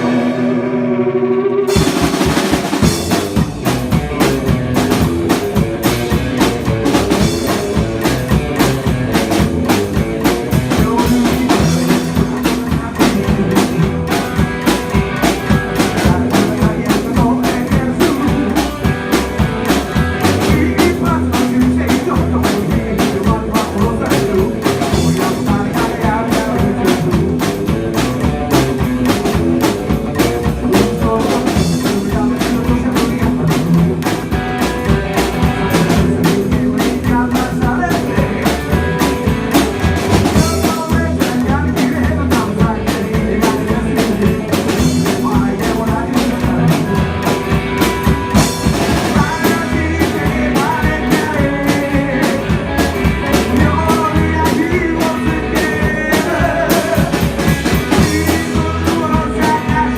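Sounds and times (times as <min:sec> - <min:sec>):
drum kit beat: 0:00.0 - 0:59.9
lead guitar lines: 0:00.0 - 0:59.9
rock band playing: 0:00.0 - 0:59.9.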